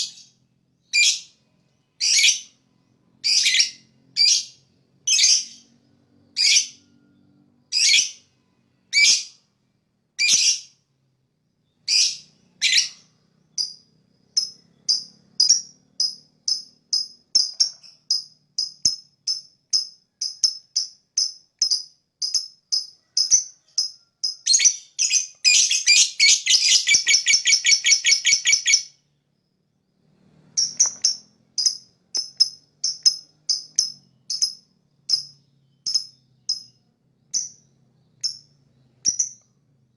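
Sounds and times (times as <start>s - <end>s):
bird chirping and trilling: 0.0s - 9.5s, 10.2s - 10.8s, 11.6s - 29.2s, 30.4s - 39.5s.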